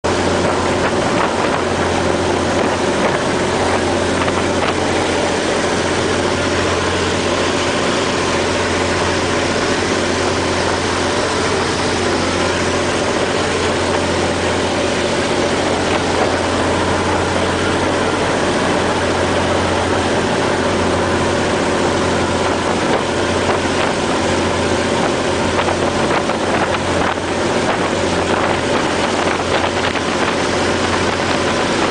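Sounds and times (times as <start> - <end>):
boat engine droning: 0.0 - 31.9
wake rushing along hull: 0.0 - 31.9.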